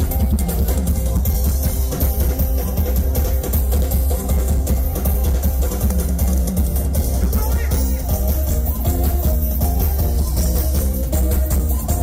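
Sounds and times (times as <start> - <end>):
live band music with heavy bass: 0.0 - 12.0.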